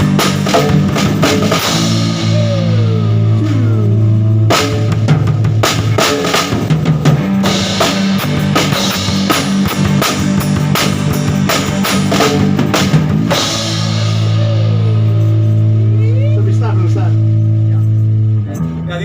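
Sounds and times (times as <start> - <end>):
drum kit hits: 0.0 - 17.3
bass and guitar notes: 0.0 - 19.0.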